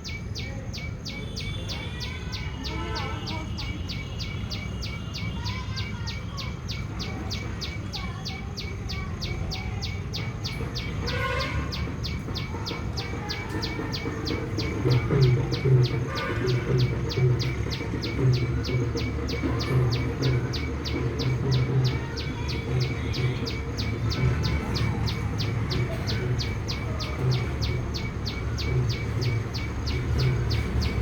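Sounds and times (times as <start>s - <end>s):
bird chirping rapidly: 0.0s - 31.0s.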